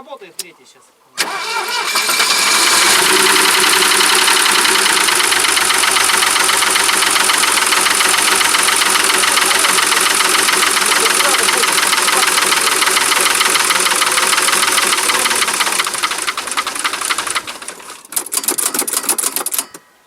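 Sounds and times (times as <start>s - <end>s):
car engine idling: 1.2s - 18.1s
engine knocking: 1.9s - 19.5s.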